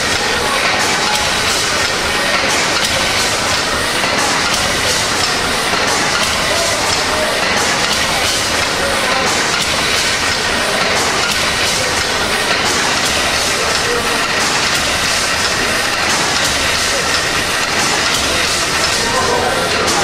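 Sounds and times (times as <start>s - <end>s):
steam hissing: 0.0s - 20.0s
working machinery: 0.0s - 20.0s.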